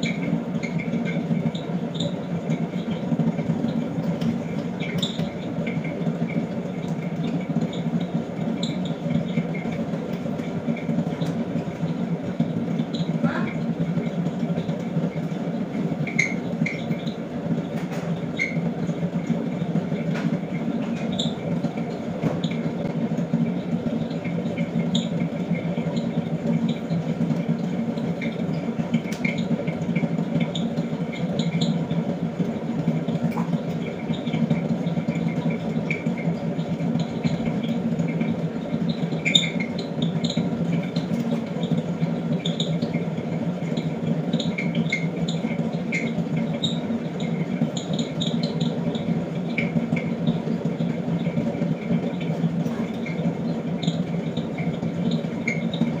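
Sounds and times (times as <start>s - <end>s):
pottery wheel motor humming: 0.0s - 56.0s.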